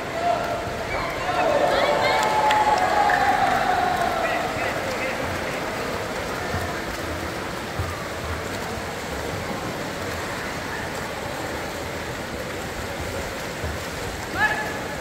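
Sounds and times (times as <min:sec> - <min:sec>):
water splashing in pool: 0:00.0 - 0:15.0.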